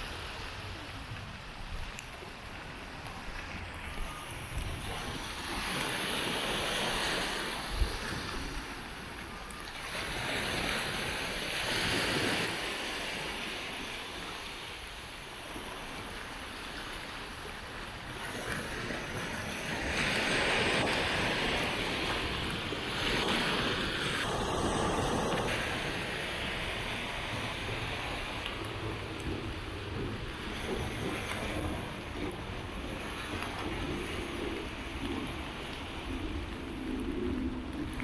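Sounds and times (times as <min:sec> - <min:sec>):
sea waves washing onto sand: 0:00.0 - 0:38.0.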